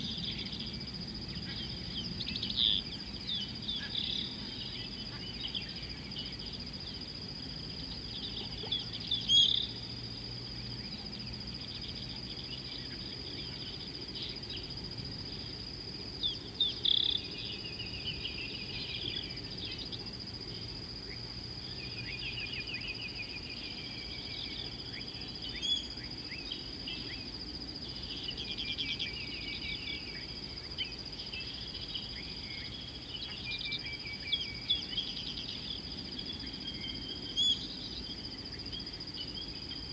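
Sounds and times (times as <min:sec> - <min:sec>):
small birds chirping: 0:00.0 - 0:10.0, 0:10.6 - 0:39.9
high-pitched insect trill: 0:00.0 - 0:39.9.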